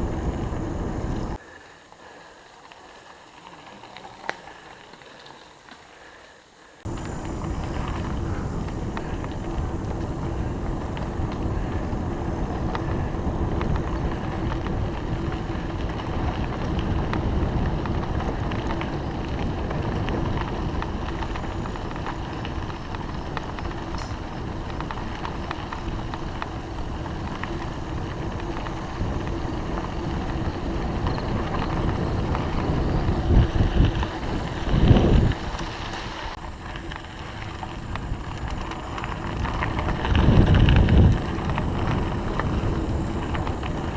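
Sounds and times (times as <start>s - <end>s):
wind rumbling on microphone: 0.0s - 2.2s, 6.8s - 43.9s
bicycle bumps: 0.0s - 43.9s
bicycle tyre road noise: 0.0s - 43.9s.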